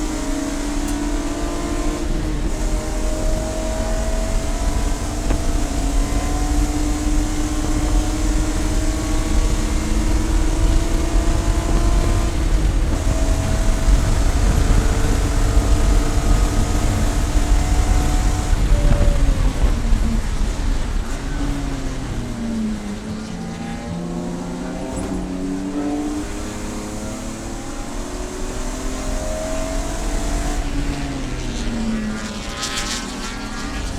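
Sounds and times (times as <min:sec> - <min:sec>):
heavy low rumble: 0:00.0 - 0:33.9
race car engine running: 0:00.0 - 0:33.9.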